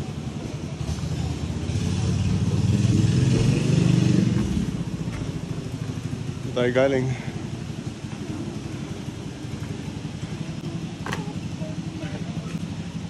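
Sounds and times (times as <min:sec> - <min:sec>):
vehicle engine passing by: 0:00.7 - 0:13.0.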